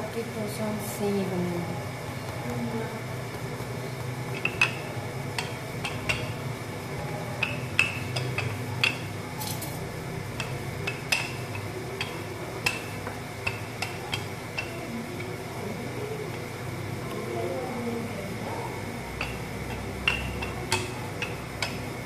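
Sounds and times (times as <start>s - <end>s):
steady low hum: 0.0s - 22.0s
rolling pin rolling dough: 1.2s - 22.0s.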